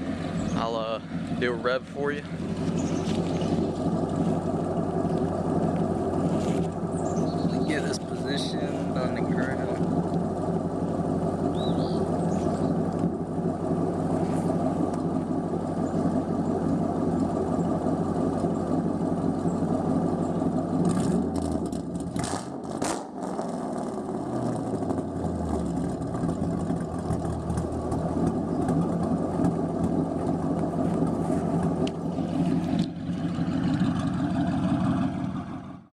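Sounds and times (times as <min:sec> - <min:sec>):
car engine idling and revving: 0:00.0 - 0:35.9
exhaust crackle: 0:00.0 - 0:35.9.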